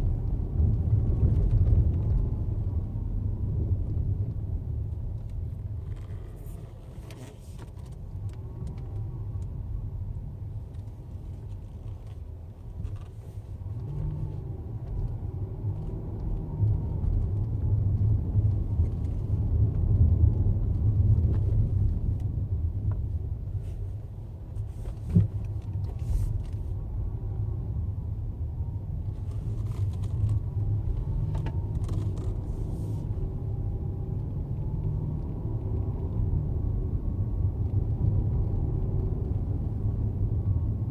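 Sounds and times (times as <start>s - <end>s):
faint engine whine: 0.0s - 40.9s
road and engine rumble: 0.0s - 40.9s.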